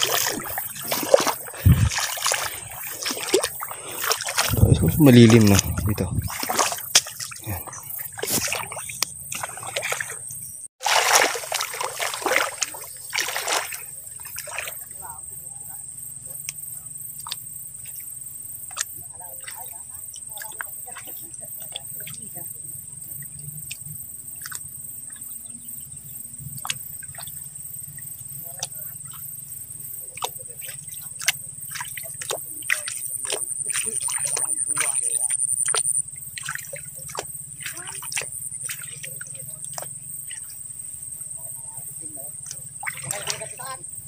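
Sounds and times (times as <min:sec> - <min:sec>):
muddy water splashing and sloshing: 0:00.0 - 0:15.6, 0:16.4 - 0:44.0
insects chirring: 0:00.0 - 0:44.0.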